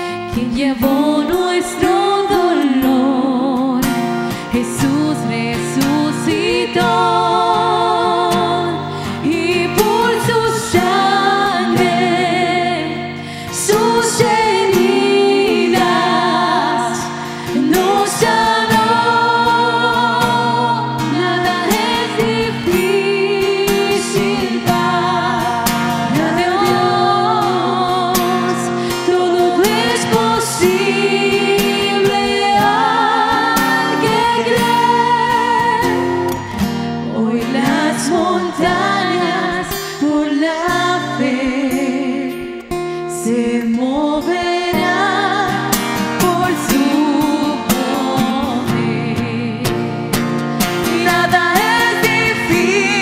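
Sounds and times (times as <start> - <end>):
acoustic guitar: 0.0 - 53.0
women singing with vibrato: 0.0 - 53.0.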